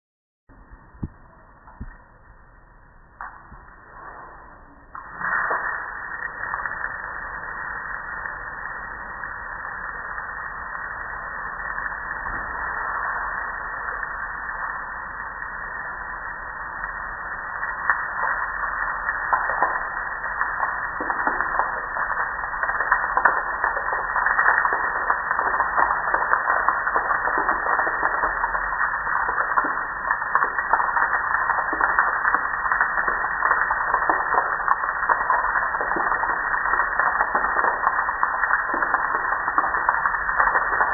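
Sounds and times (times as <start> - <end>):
water dripping: 0.5 - 40.9.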